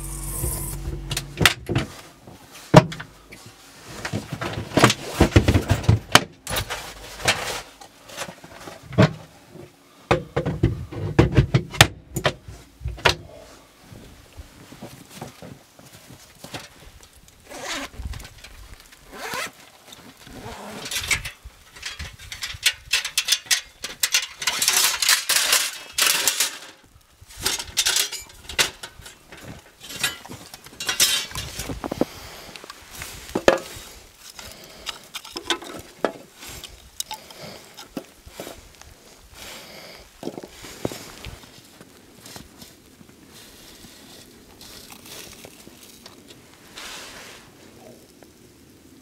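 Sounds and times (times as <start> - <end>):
camp gear rustling and clinking: 0.0 - 9.8, 13.9 - 46.8.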